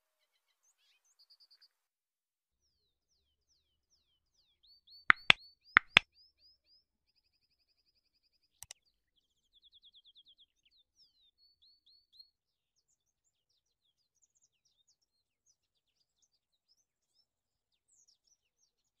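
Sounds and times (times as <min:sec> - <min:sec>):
faint birdsong: 0:00.0 - 0:01.8, 0:02.6 - 0:19.0.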